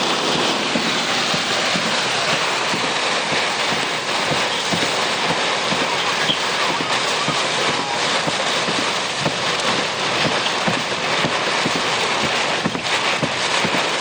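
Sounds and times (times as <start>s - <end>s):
heavy rain beating on car body: 0.0s - 14.0s.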